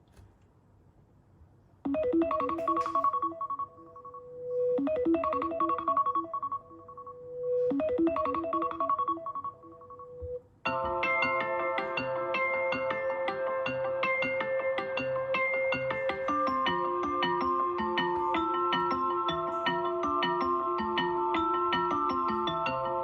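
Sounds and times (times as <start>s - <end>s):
keyboard-like ringtone melody: 1.9s - 23.0s
rich multi-note ringtone: 1.9s - 23.0s.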